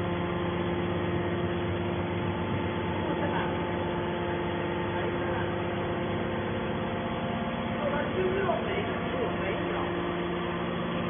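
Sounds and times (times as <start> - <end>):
hydraulic pump motor hum: 0.0 - 11.0.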